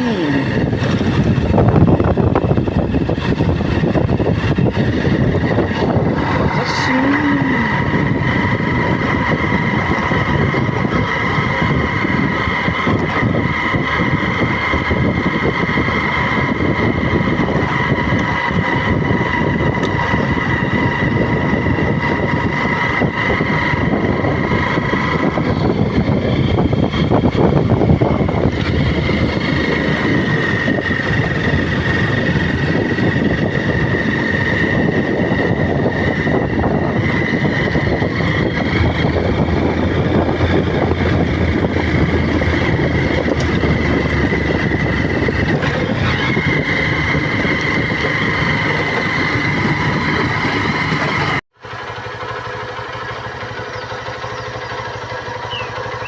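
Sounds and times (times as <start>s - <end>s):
road and wind noise: 0.0s - 56.0s
vehicle engine whine: 0.0s - 56.0s.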